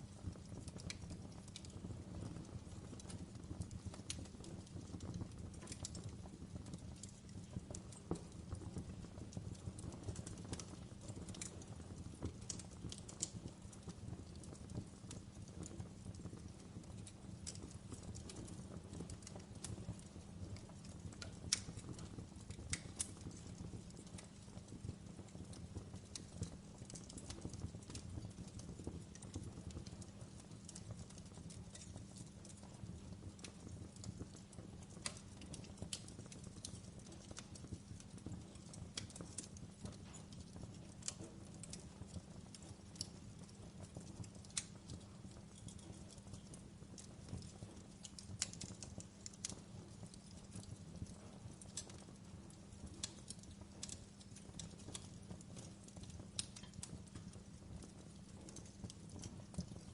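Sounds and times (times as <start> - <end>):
fire crackles and pops: 0.0 - 59.9
wood fire low rumble: 0.0 - 59.9.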